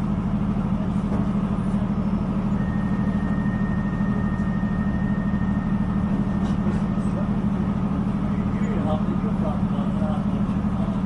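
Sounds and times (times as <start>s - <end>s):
train engine droning: 0.0s - 11.0s.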